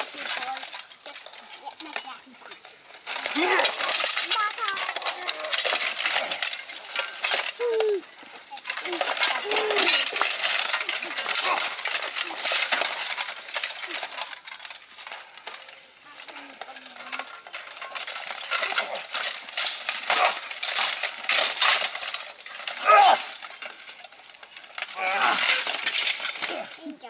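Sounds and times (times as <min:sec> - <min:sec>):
plate armour clanking: 0:00.0 - 0:26.9
swords clashing: 0:02.6 - 0:26.8.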